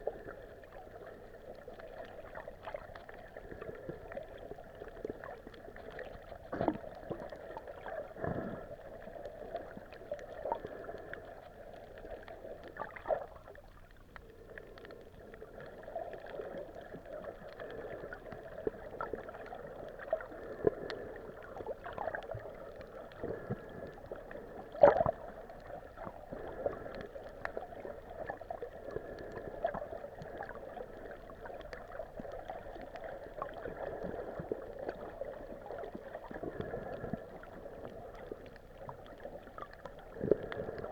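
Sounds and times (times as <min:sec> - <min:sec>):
muffled underwater rush: 0:00.0 - 0:40.9.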